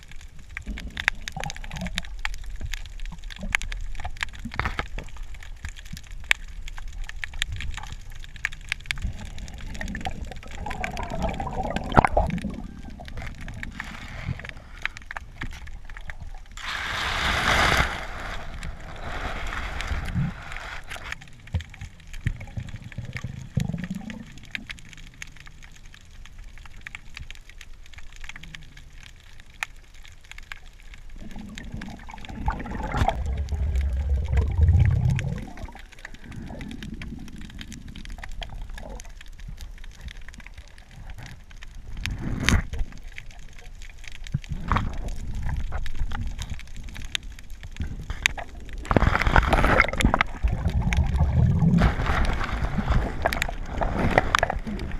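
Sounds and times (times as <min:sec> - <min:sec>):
muffled underwater rumble: 0:00.0 - 0:54.9
sharp clicks and crackles: 0:00.0 - 0:54.9.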